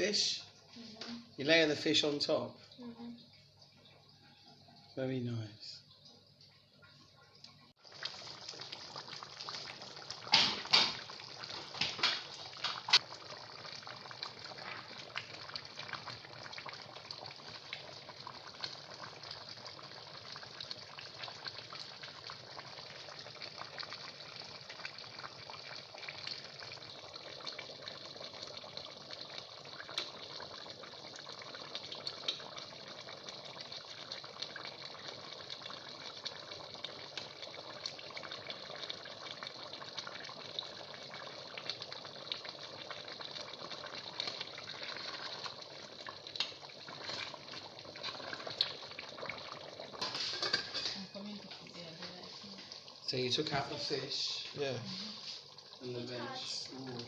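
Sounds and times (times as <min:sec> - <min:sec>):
pot boiling and bubbling: 0:00.0 - 0:57.0.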